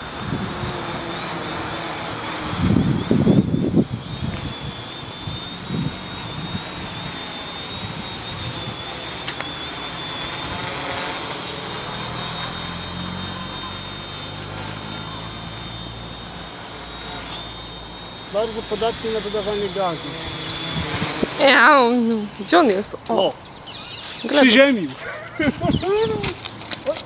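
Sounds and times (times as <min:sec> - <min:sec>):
quadcopter propellers whining: 0:00.0 - 0:27.0.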